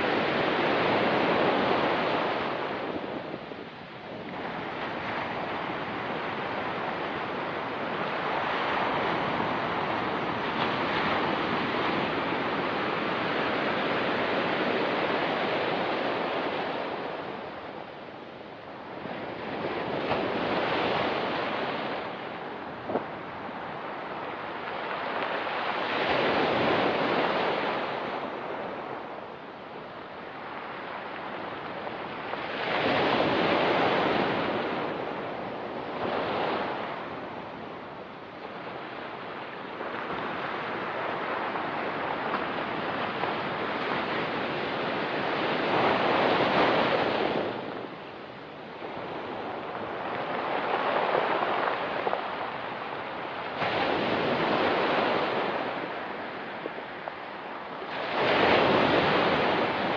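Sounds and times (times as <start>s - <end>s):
ocean surf on pebbly shore: 0.0s - 59.9s.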